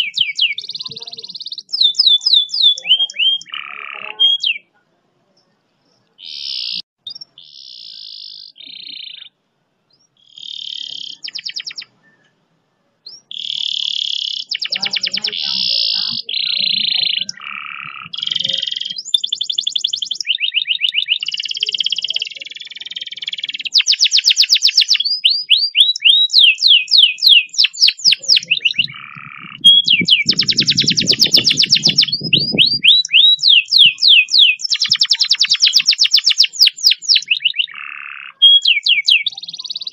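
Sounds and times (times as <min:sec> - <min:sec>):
canary trilling song: 0:00.0 - 0:04.7, 0:06.2 - 0:12.4, 0:13.0 - 0:39.9.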